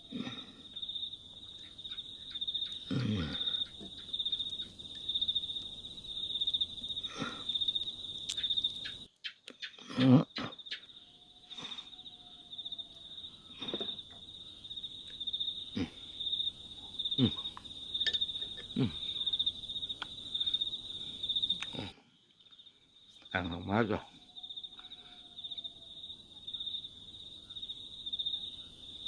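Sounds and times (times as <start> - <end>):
insects chirping: 0.0 - 29.0.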